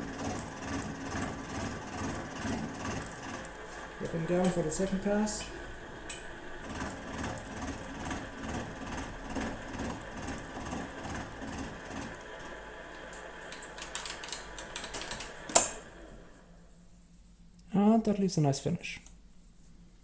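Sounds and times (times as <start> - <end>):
milling machine cutting steel: 0.0 - 16.4.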